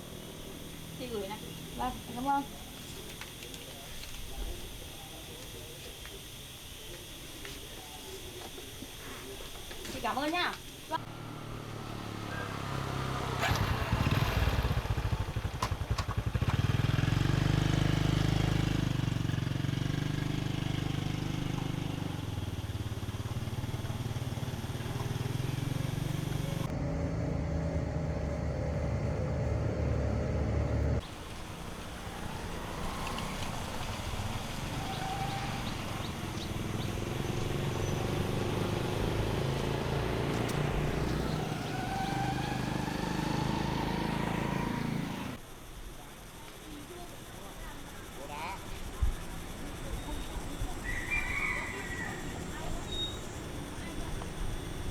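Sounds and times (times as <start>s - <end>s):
motorbike engine running: 0.0s - 5.8s, 10.0s - 45.4s, 51.6s - 54.9s.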